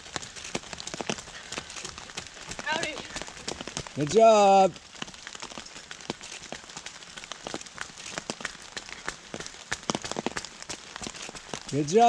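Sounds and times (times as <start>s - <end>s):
light rain hiss: 0.0s - 12.0s
raindrops tapping: 0.0s - 12.0s.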